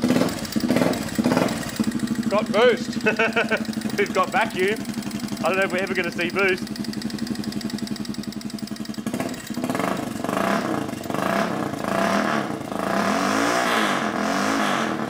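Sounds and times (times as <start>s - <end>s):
motorbike engine idling and revving: 0.0s - 15.0s.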